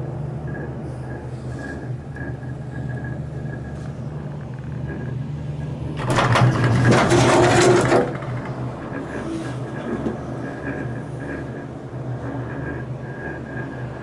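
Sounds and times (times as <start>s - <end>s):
gondola cabin humming: 0.0s - 14.0s
loud rattling rumble: 0.0s - 14.0s.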